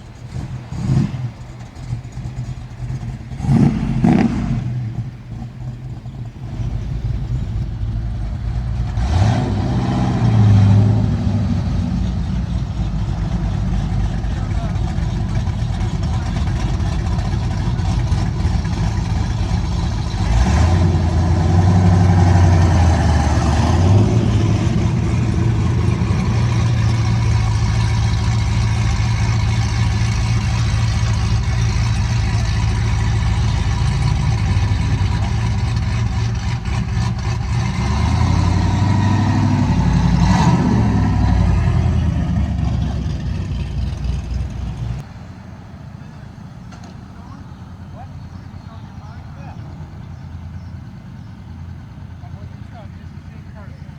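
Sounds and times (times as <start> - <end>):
motor vehicle engine running: 0.0 - 53.9.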